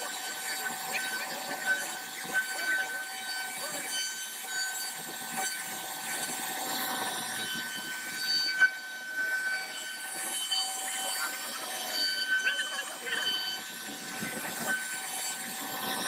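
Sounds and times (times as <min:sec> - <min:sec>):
cnc router spindle whine: 0:00.0 - 0:16.0.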